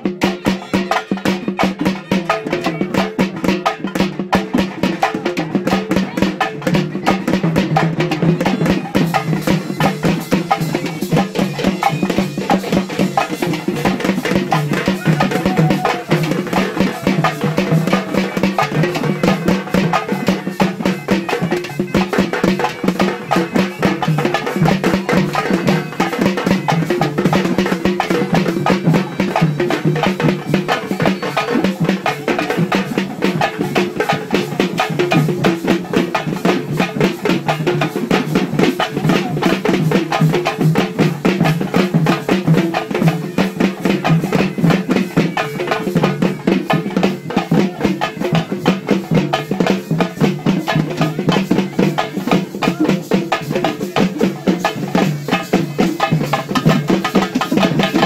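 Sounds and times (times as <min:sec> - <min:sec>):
hand drums beating rapidly: 0:00.0 - 0:58.0.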